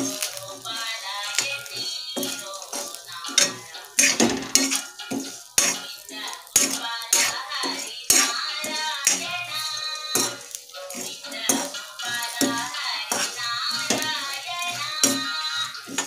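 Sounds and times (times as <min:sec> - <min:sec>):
metal spatula scraping and clanking: 0:00.0 - 0:16.0.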